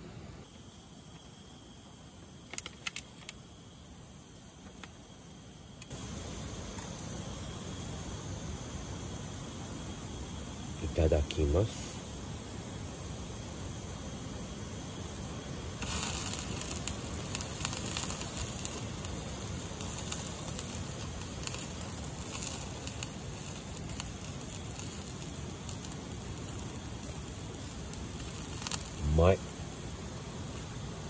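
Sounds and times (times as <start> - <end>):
fire hiss: 0.0 - 31.0
campfire crackling: 0.4 - 31.0.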